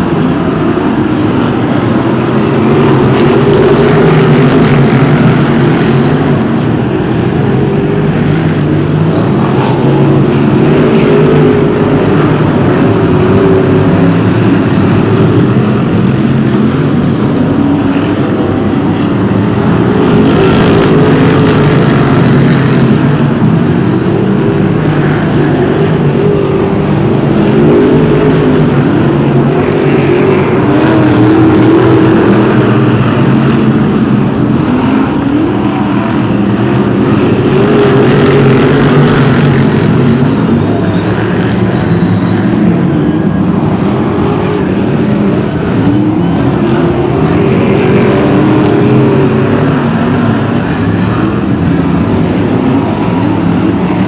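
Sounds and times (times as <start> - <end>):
racing car engines droning: 0.0 - 54.0.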